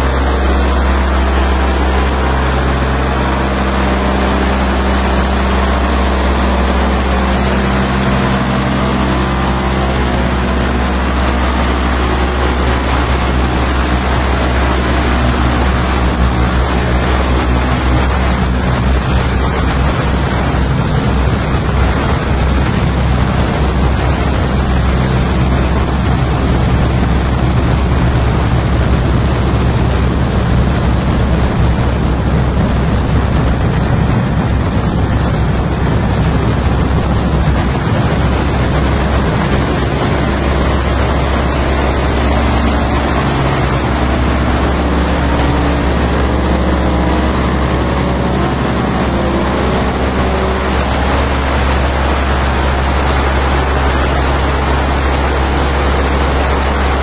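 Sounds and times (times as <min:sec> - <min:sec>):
heavy low drone: 0:00.0 - 0:57.0
low pitched tones: 0:00.0 - 0:57.0
wall of electronic noise: 0:00.0 - 0:57.0.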